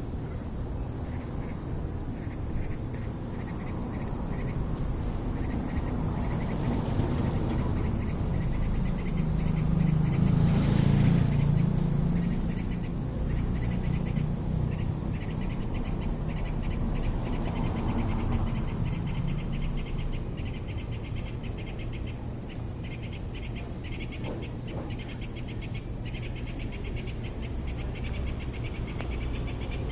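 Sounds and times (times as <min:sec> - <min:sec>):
insects trilling: 0:00.0 - 0:29.9.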